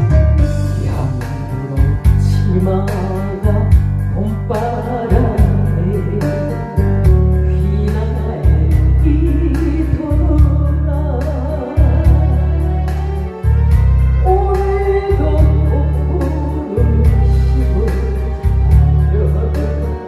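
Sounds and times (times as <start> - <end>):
backing track with heavy bass beat: 0.0 - 20.0
woman singing into microphone: 0.8 - 13.1, 13.9 - 20.0.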